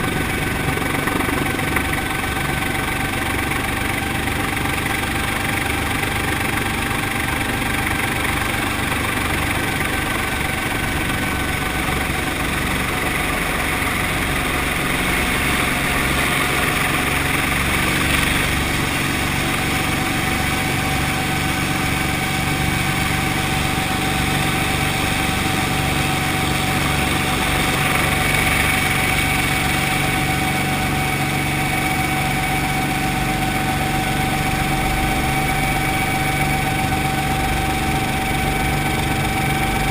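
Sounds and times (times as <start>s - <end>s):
helicopter engine and rotor drone: 0.0s - 39.9s
thin steady whine: 0.0s - 39.9s.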